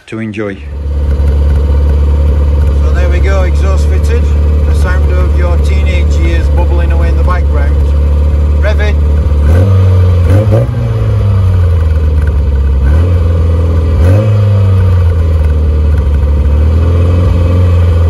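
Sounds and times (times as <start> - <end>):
car engine revving: 0.6 - 18.0.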